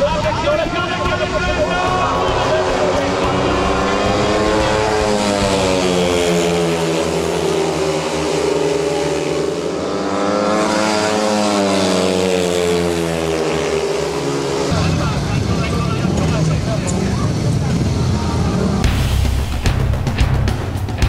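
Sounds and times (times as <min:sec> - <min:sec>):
motorcycles racing at full throttle: 0:00.0 - 0:21.0.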